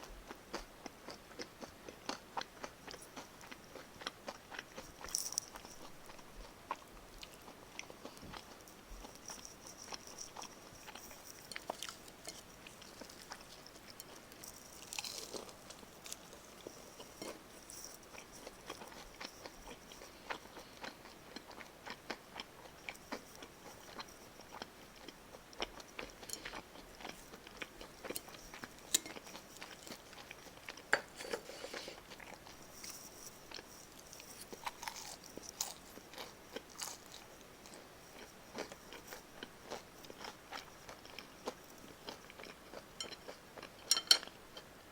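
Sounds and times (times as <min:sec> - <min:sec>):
crunching and chewing fried chicken: 0:00.0 - 0:44.9.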